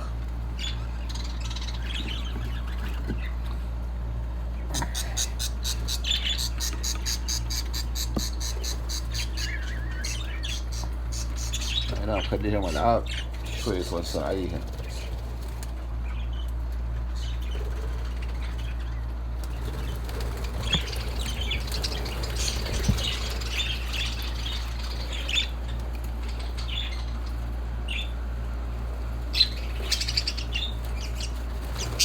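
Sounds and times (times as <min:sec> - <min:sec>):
budgerigars chirping and squawking: 0:00.0 - 0:03.6, 0:04.6 - 0:28.2, 0:28.8 - 0:32.0
steady low hum: 0:00.0 - 0:32.0.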